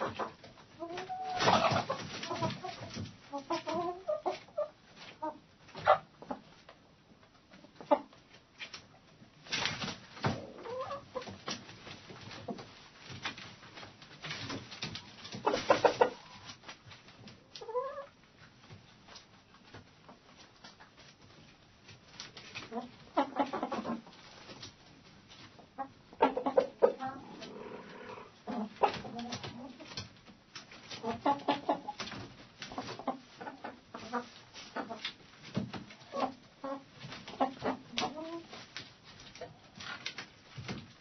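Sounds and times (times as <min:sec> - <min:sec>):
hens clucking: 0:00.0 - 0:06.6, 0:07.4 - 0:08.4, 0:09.5 - 0:18.2, 0:19.5 - 0:40.3.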